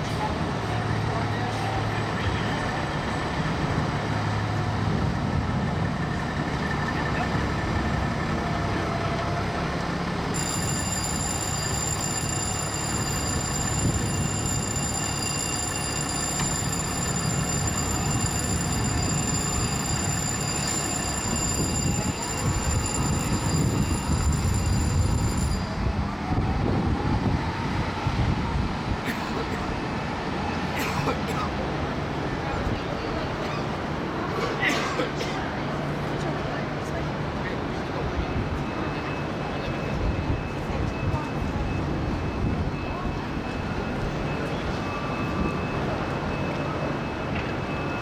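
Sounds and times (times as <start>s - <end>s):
heavy traffic engine rumble: 0.0s - 10.8s, 16.0s - 48.0s.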